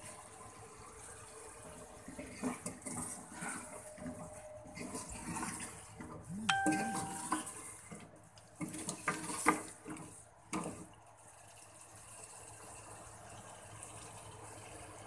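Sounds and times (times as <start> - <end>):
soft hiss of pot cooking: 0.0 - 15.0.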